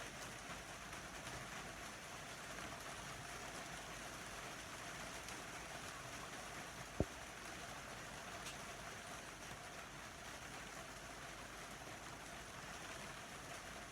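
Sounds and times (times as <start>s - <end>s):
steady rain falling: 0.0s - 13.9s.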